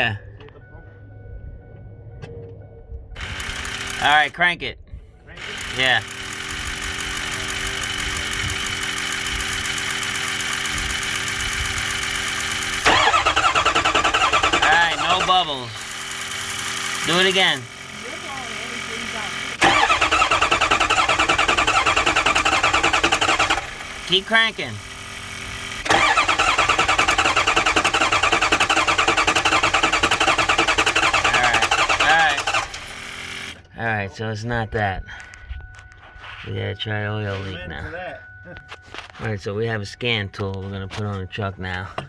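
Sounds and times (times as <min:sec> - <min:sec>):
engine humming: 0:00.0 - 0:04.4, 0:05.1 - 0:42.0.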